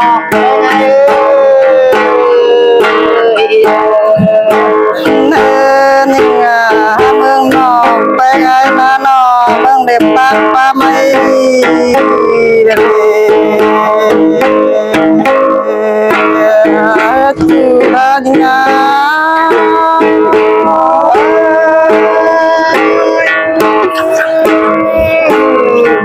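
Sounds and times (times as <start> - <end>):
person singing: 0.0 - 26.0
plucked lute: 0.0 - 26.0.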